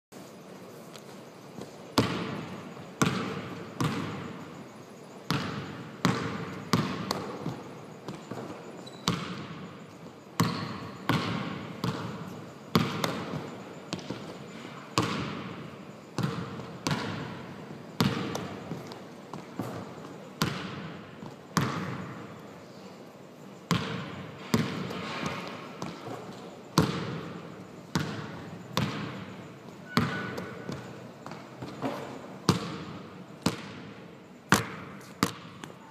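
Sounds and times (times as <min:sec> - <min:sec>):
basketball bouncing on gym floor: 0:02.0 - 0:04.5, 0:05.3 - 0:09.8, 0:10.4 - 0:22.4, 0:23.7 - 0:35.9.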